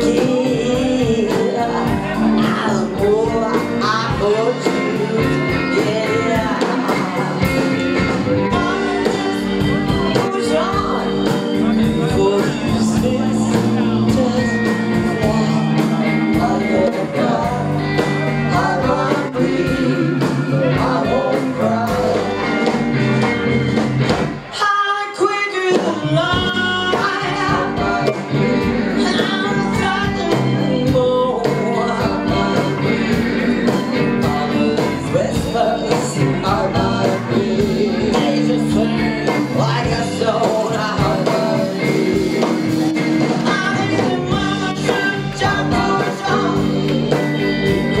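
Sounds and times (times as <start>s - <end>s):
woman singing: 0.0s - 22.8s, 24.5s - 48.0s
live rock band playing: 0.0s - 48.0s.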